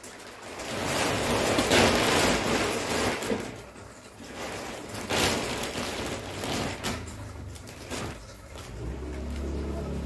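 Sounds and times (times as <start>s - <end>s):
plastic wrapping rustling: 0.0s - 10.0s.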